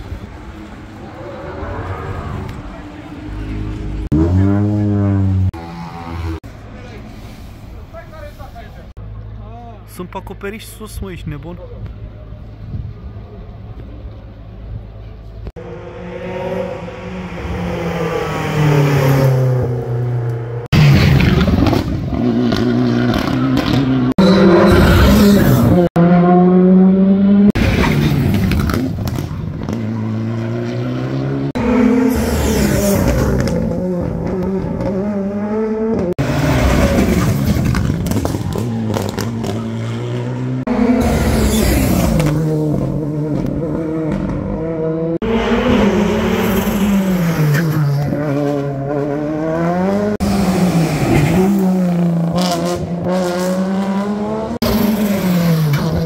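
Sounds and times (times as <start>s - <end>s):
rally car engines revving: 0.0s - 8.3s, 11.8s - 56.0s.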